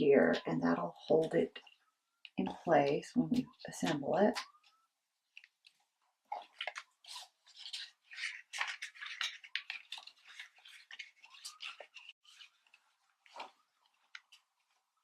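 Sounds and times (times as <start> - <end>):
paper rustling and scratching: 0.0 - 15.0.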